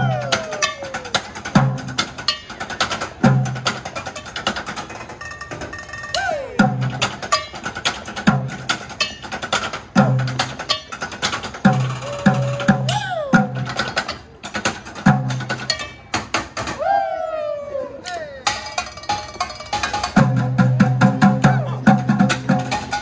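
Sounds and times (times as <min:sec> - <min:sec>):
percussion on pots and pans: 0:00.0 - 0:16.8, 0:18.4 - 0:23.0.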